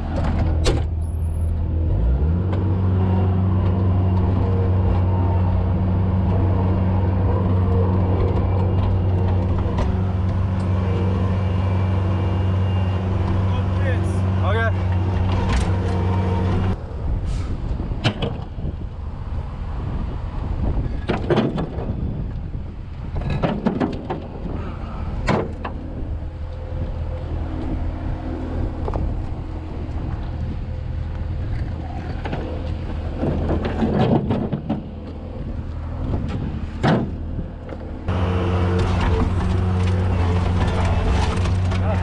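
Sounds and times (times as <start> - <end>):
skid steer engine running: 0.0 - 16.8, 21.8 - 42.0.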